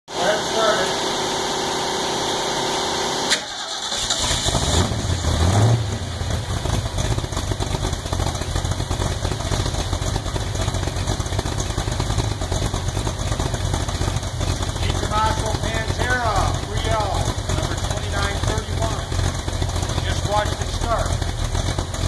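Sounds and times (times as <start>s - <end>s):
car engine starting and idling: 0.1s - 22.0s.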